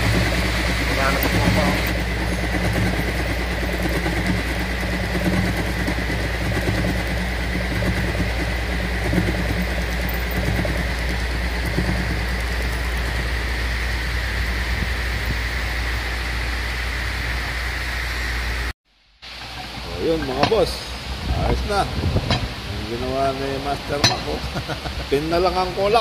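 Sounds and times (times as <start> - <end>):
milling machine whining: 0.0 - 26.0.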